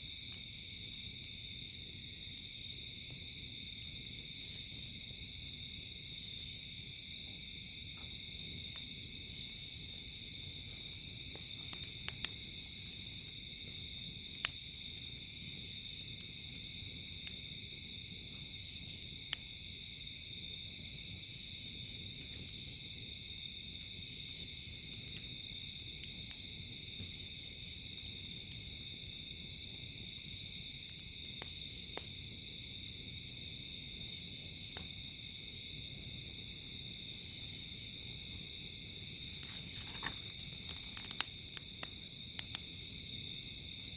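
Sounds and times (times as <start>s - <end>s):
campfire popping: 0.0s - 43.9s
night insects chorus: 0.0s - 43.9s.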